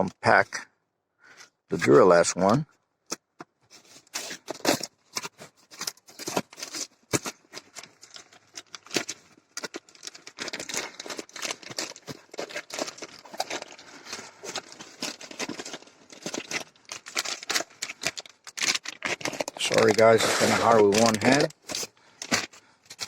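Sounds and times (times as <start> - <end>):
packaging crinkling and tearing: 3.7 - 23.0.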